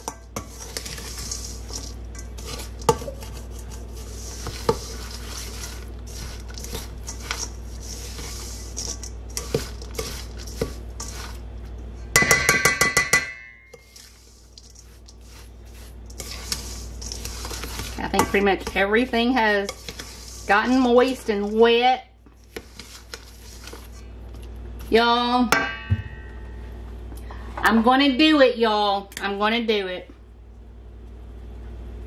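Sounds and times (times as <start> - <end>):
metal spoon stirring in steel bowl: 0.0 - 25.8.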